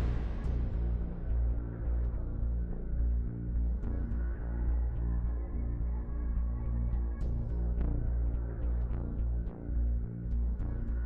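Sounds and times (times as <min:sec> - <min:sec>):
background music with bass drone: 0:00.0 - 0:11.0.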